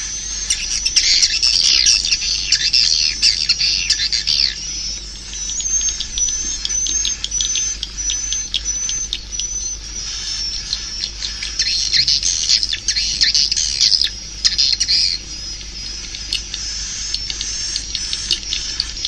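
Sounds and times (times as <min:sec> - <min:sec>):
birds twittering and clicking: 0:00.0 - 0:19.0.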